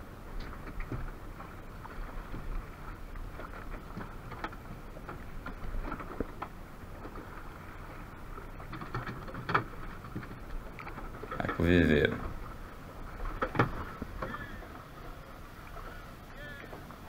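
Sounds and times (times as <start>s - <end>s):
knocks and splashes: 0.0s - 17.0s
water around a boat: 0.0s - 17.0s
wind: 0.0s - 17.0s.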